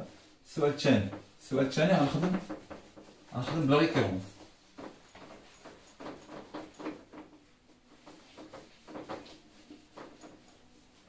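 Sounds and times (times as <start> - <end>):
eraser wiping a whiteboard: 0.0 - 11.0.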